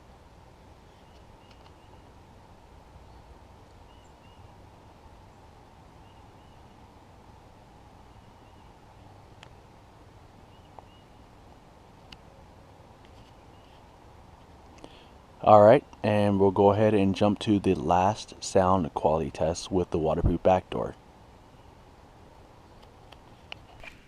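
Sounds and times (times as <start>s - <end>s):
low hiss and hum: 0.0s - 24.0s.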